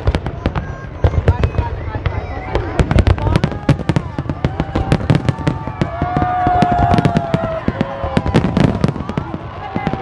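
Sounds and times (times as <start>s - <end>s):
fireworks bursting with bangs: 0.0s - 10.0s.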